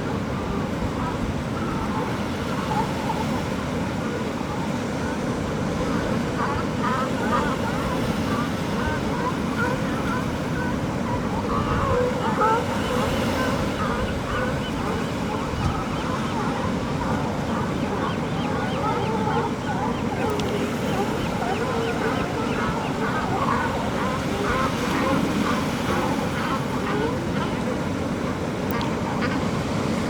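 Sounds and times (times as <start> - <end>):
seabirds and sea lions honking: 0.0 - 30.0
surf washing: 0.0 - 30.0.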